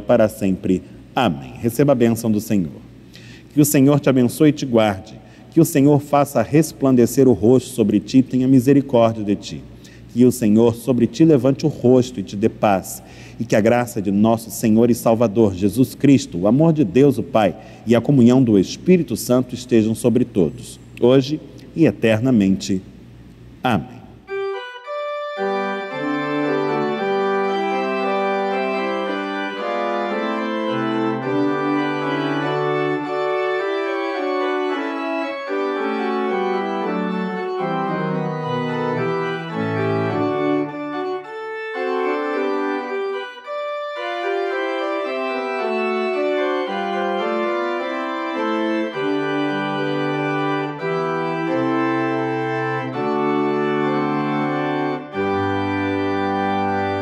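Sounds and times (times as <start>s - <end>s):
organ playing slow chords: 0.0s - 57.0s.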